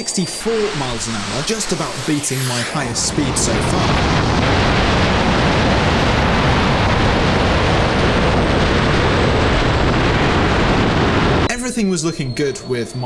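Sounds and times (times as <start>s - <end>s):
faint high whine: 0.0s - 13.0s
jet turbine roar: 0.0s - 13.0s.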